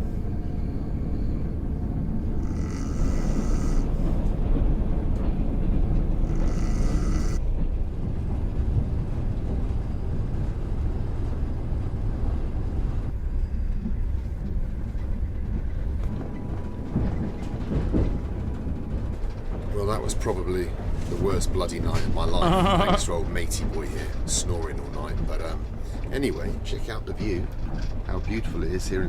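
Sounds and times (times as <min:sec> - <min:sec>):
train rumbling on track: 0:00.0 - 0:29.0.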